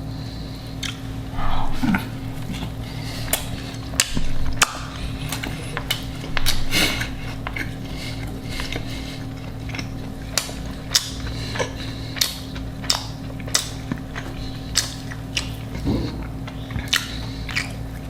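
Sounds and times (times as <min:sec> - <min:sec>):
crunchy chewing of food: 0:00.0 - 0:18.0.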